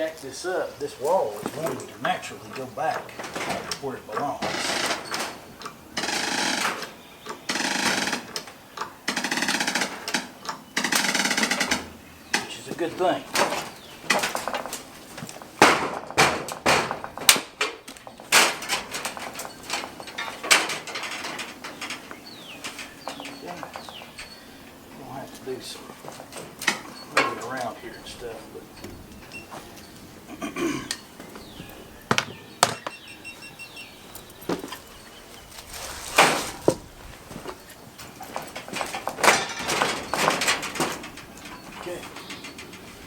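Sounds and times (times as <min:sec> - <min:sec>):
tools and lumber knocking: 0:01.4 - 0:33.2, 0:36.0 - 0:43.0
wood and metal clunks: 0:01.4 - 0:33.3, 0:34.1 - 0:43.0.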